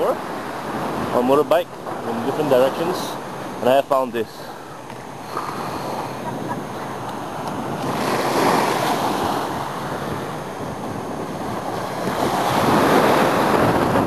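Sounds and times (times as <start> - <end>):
wind buffeting microphone: 0.0 - 3.6, 4.9 - 14.0
sea waves washing up beach: 0.0 - 14.0.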